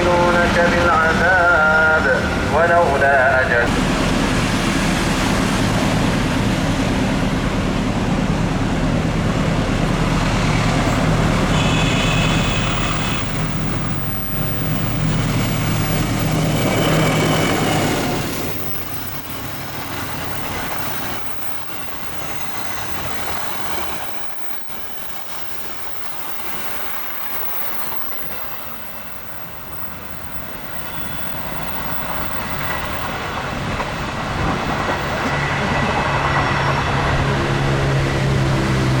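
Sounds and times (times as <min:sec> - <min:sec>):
diesel locomotive engine passing: 0:00.0 - 0:39.0
train rolling on rails: 0:00.0 - 0:39.0.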